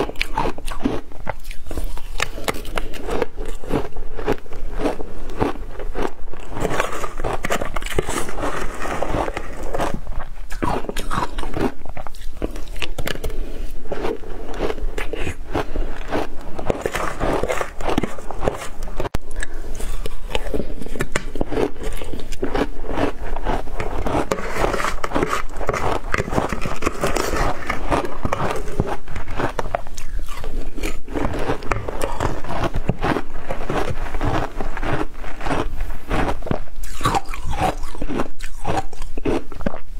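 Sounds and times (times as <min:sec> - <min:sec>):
ice being crunched in mouth: 0:00.0 - 0:39.8.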